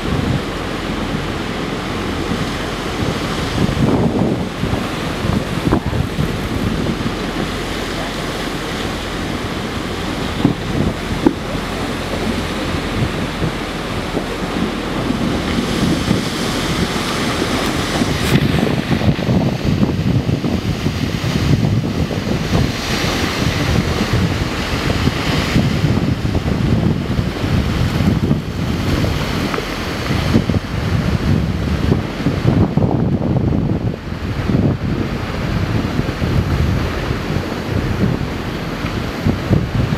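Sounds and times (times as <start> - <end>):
sea water washing around boat: 0.0 - 39.9
wind buffeting microphone: 0.0 - 39.9.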